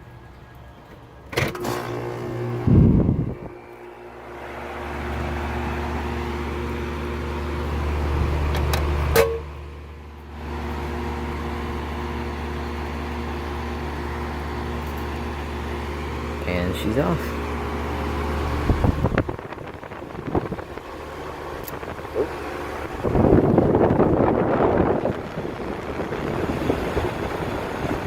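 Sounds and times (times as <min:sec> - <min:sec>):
air conditioner hum: 0:00.0 - 0:28.0.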